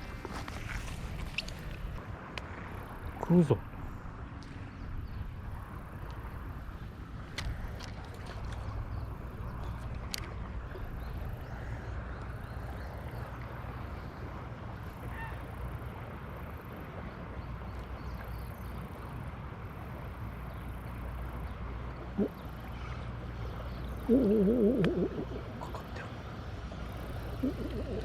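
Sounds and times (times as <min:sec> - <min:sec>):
river water running: 0:00.0 - 0:28.0.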